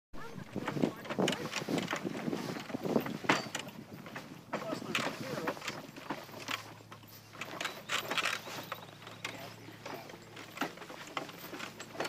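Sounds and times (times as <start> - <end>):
horse hooves walking in grass: 0.2 - 12.0
people walking: 0.2 - 12.0.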